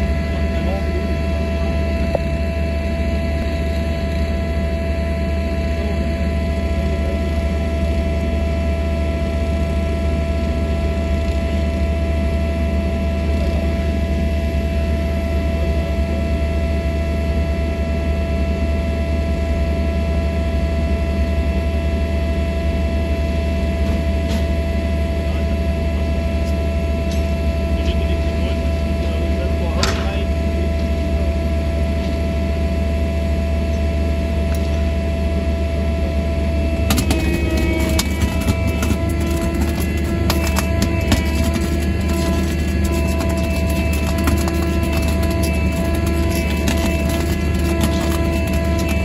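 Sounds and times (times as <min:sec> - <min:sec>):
machine drone humming: 0:00.0 - 0:20.7, 0:23.4 - 0:49.0.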